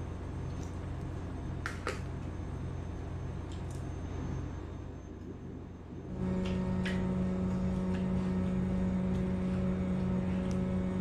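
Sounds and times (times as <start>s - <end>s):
low mechanical hum: 0.0s - 11.0s
low rumble: 0.0s - 11.0s.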